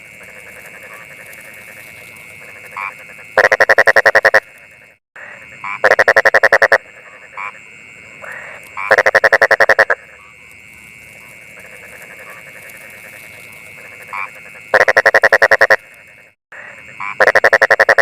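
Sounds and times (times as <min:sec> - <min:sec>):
frog calling: 0:00.0 - 0:18.0.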